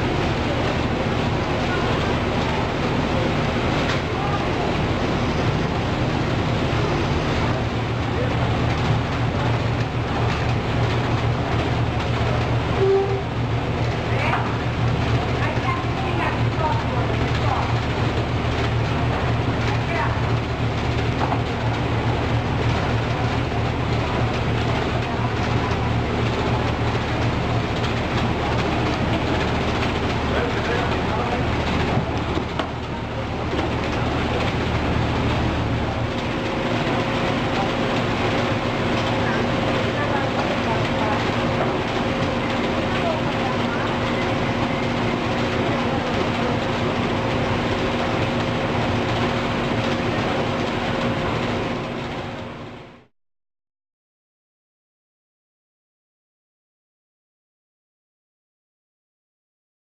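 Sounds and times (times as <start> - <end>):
motor hum: 0.0 - 52.8
conveyors and packing machinery running: 0.0 - 53.1.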